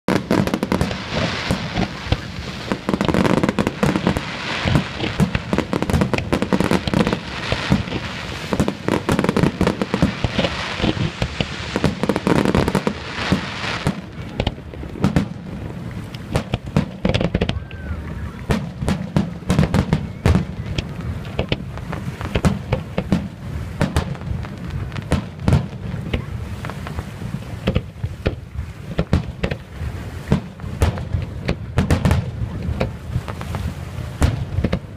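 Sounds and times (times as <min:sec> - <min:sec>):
fireworks banging and crackling: 0:00.1 - 0:34.9.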